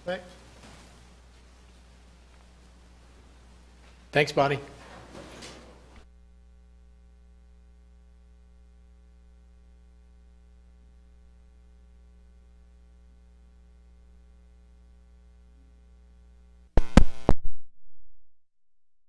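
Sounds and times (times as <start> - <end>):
faint electrical hum: 0.0 - 17.3.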